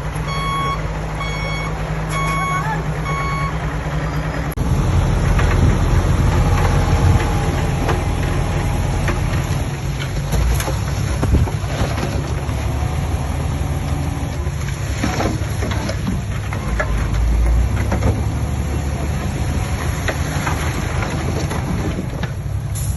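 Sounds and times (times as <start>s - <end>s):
diesel machinery rumbling: 0.0s - 22.9s.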